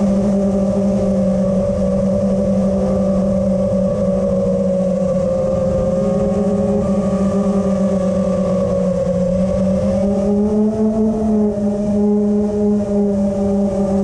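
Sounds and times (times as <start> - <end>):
drone motors whining: 0.0 - 14.0
wind rumble: 0.0 - 14.0.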